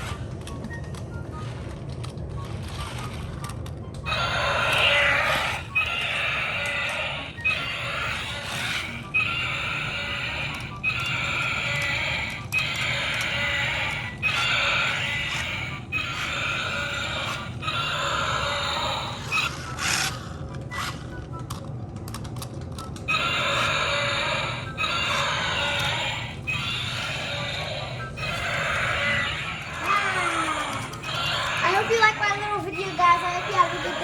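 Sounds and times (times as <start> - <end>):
looped animal-like sound effect: 4.1 - 21.2, 23.0 - 34.0.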